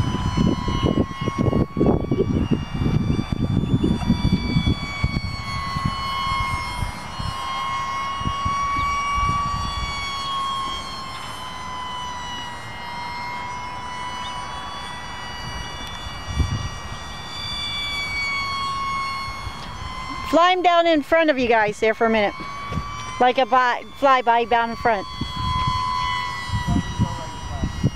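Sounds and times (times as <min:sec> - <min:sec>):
model airplane motor whining: 0:00.0 - 0:27.9
wind buffeting microphone: 0:00.0 - 0:27.9.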